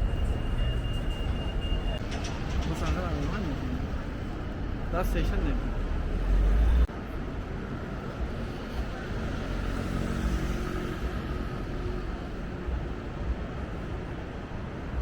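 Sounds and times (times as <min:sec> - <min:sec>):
urban vehicle noise hum: 0:00.0 - 0:15.0.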